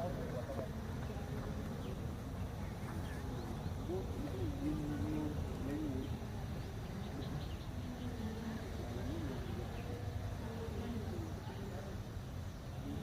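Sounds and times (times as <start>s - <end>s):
distant voices talking: 0.0s - 13.0s.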